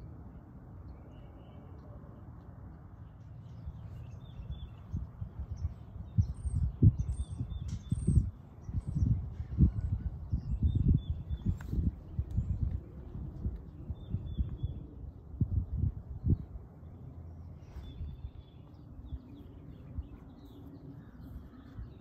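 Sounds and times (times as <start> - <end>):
small birds chirping: 2.8 - 22.0
wind buffeting microphone: 3.4 - 22.0.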